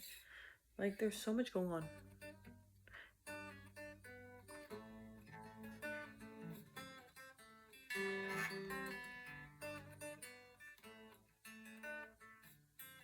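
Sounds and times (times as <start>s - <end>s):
acoustic guitar fingerpicking: 1.8s - 13.0s.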